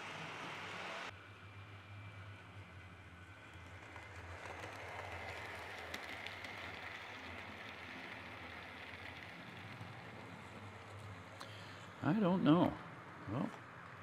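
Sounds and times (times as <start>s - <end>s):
model train motor whine: 0.0s - 12.7s
model train wheels rumbling: 0.0s - 14.0s.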